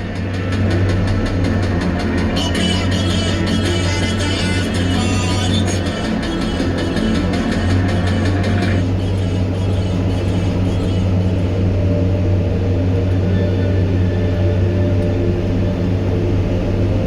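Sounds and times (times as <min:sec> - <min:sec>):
diesel engine low drone: 0:00.0 - 0:17.0.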